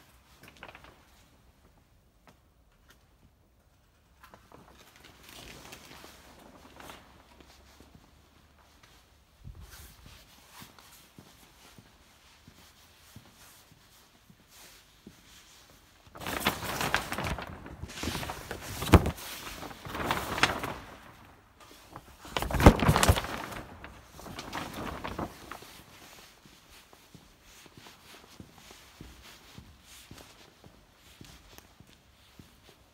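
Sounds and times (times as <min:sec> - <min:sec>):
plastic sheeting rustling: 0:00.0 - 0:01.5, 0:04.1 - 0:32.9.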